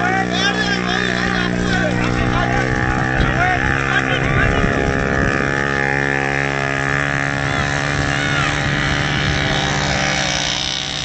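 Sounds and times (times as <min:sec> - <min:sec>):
moped engine running: 0:00.0 - 0:11.0.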